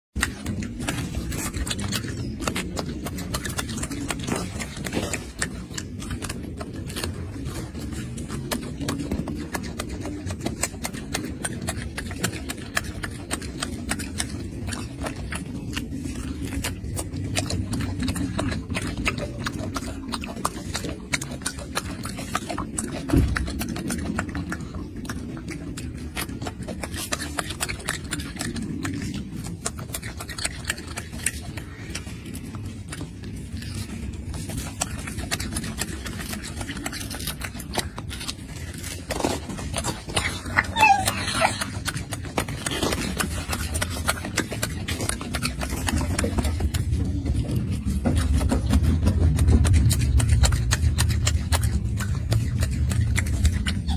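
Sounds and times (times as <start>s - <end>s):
monkey chewing wetly: 0.1s - 53.9s.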